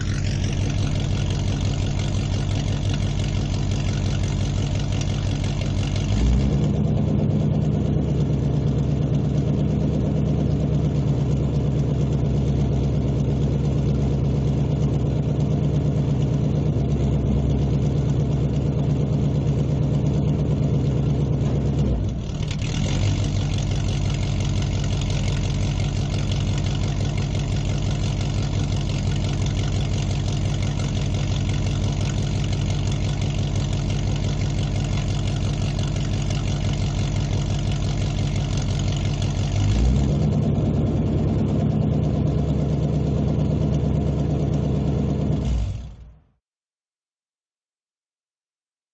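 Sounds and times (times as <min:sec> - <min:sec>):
car engine idling: 0:00.0 - 0:46.2.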